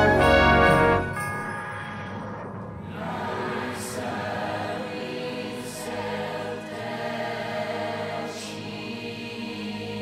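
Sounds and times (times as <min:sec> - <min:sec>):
wordless choir holding notes: 0:00.0 - 0:01.2, 0:02.7 - 0:10.0.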